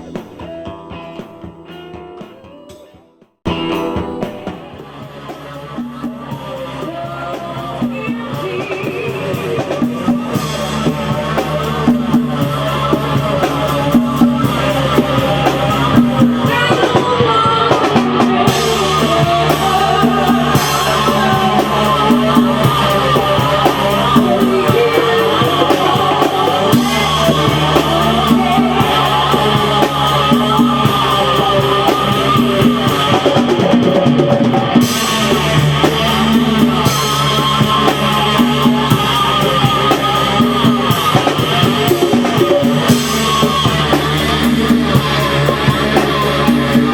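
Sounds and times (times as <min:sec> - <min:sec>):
bass guitar: 0:00.0 - 0:46.9
drum kit: 0:00.0 - 0:46.9
electric guitar: 0:00.0 - 0:46.9
person singing: 0:00.0 - 0:46.9.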